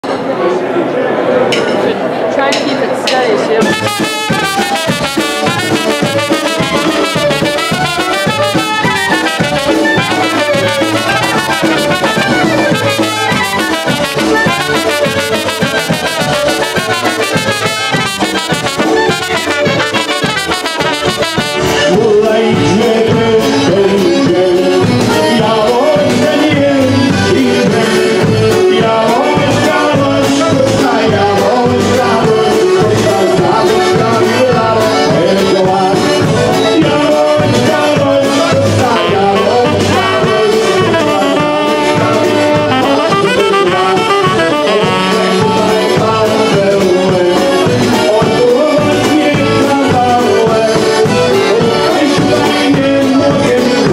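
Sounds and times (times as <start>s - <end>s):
keyboard: 0.0s - 53.9s
accordion: 2.4s - 53.9s
rhythm section: 2.5s - 53.9s
trumpet: 3.6s - 53.9s.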